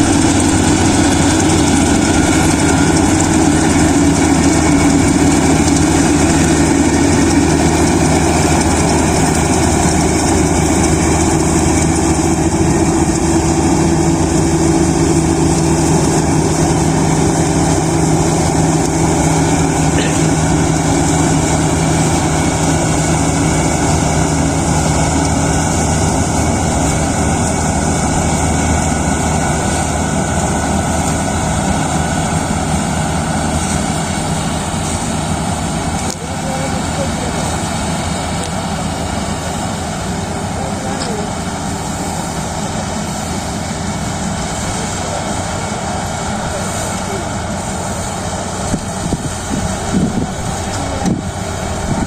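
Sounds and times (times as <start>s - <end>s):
combine harvester running: 0.0s - 52.0s.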